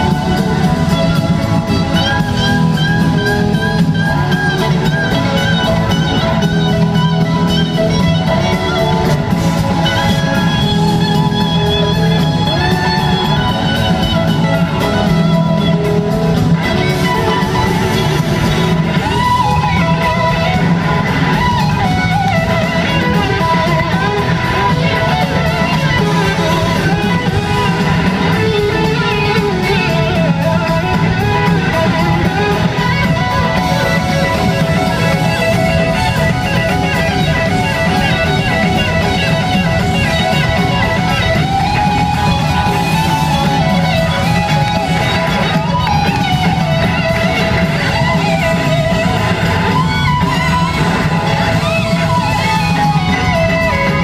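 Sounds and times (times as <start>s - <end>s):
blues-rock band playing: 0.0s - 54.0s
electric guitar lead: 0.0s - 54.0s.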